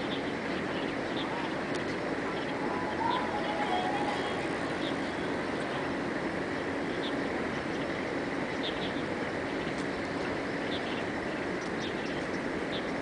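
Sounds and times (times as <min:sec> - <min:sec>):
small birds chirping: 0:00.0 - 0:13.0
steady rushing noise: 0:00.0 - 0:13.0.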